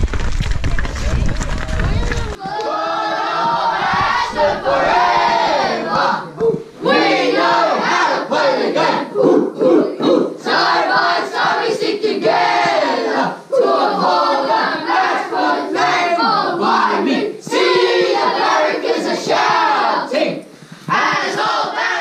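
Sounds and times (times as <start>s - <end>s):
boys singing together loudly: 2.4s - 22.0s.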